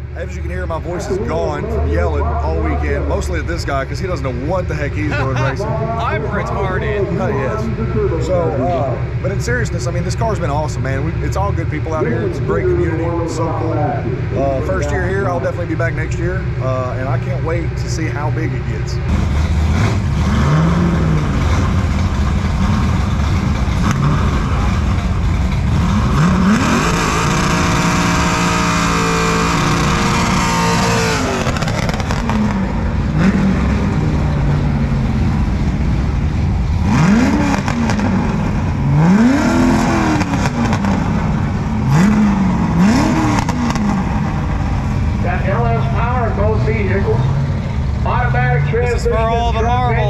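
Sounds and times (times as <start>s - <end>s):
race car engines revving: 0.0s - 50.0s.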